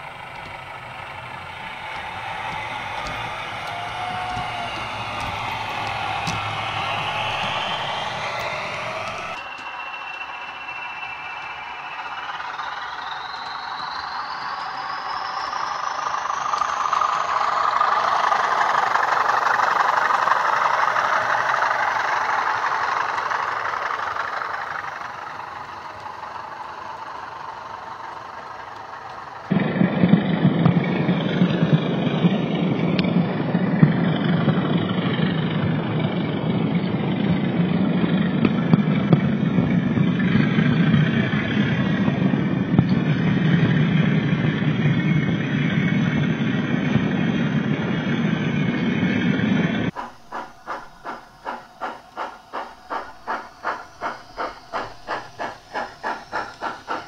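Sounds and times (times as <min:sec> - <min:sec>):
model diesel locomotive engine sound: 0:00.0 - 0:57.0.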